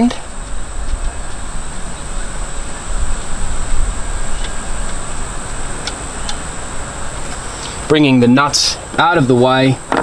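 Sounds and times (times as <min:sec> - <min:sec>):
high-pitched insect drone: 0:00.0 - 0:10.0
rushing background noise: 0:00.0 - 0:10.0.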